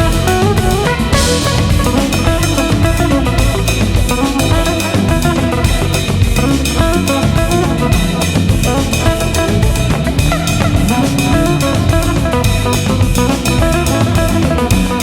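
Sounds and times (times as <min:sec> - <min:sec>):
band music with drums bass guitar: 0:00.0 - 0:15.0.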